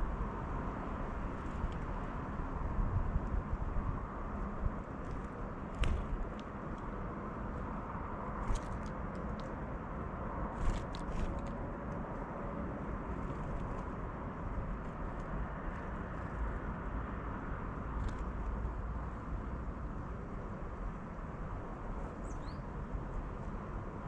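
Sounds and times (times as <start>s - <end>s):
low outdoor background rumble: 0.0s - 24.0s.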